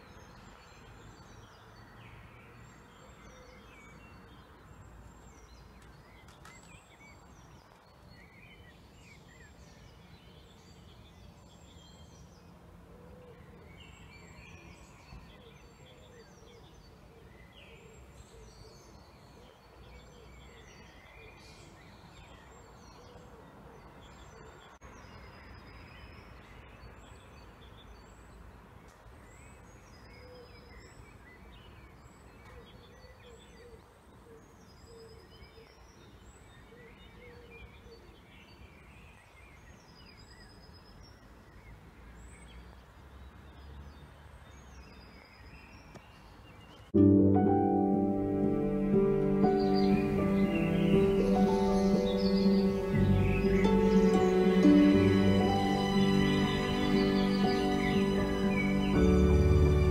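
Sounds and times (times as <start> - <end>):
faint birdsong: 0.0 - 59.9.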